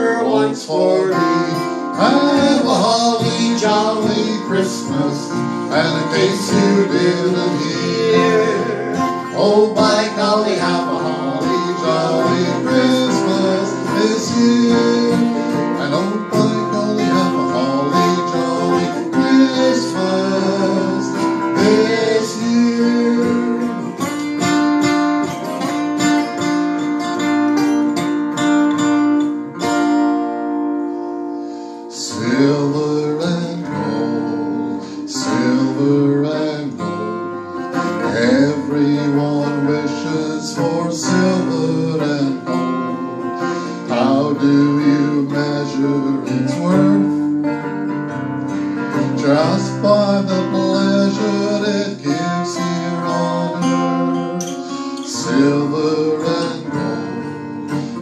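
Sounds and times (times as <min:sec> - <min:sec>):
acoustic guitars strumming: 0:00.0 - 0:58.0.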